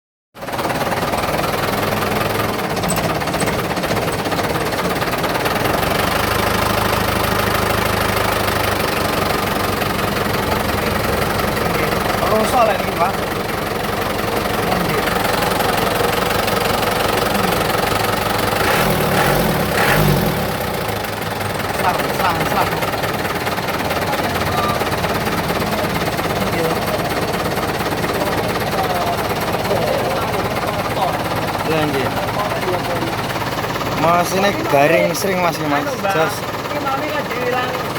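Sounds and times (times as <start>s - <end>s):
diesel truck open exhaust clatter: 0.4s - 37.9s.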